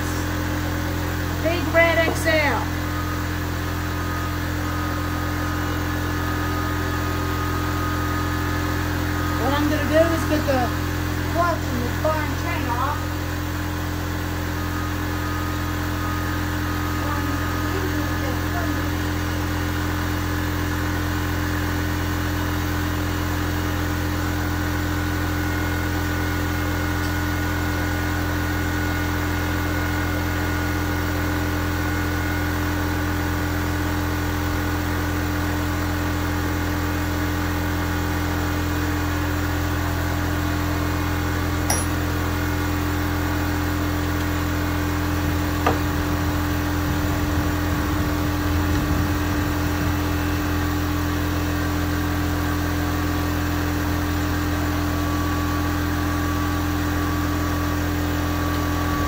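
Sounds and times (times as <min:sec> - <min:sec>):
machine drone with low hum: 0:00.0 - 0:59.0.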